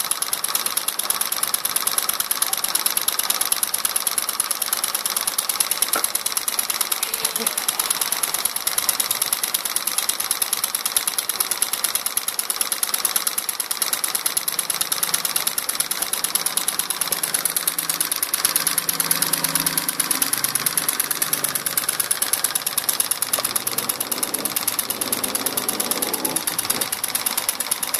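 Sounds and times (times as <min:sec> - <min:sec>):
small engine mechanical clatter: 0:00.0 - 0:27.9.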